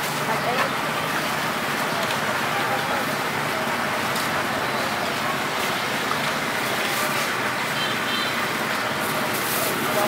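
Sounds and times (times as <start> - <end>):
motor traffic: 0.0 - 10.0.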